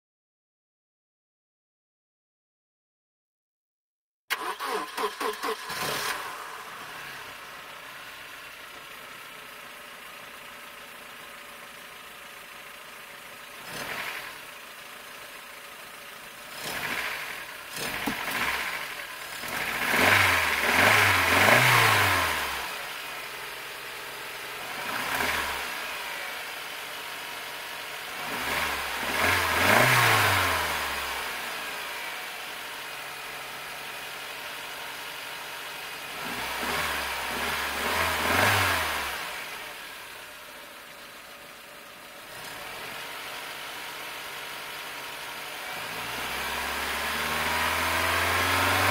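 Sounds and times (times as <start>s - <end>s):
car engine idling and revving: 4.3s - 48.9s.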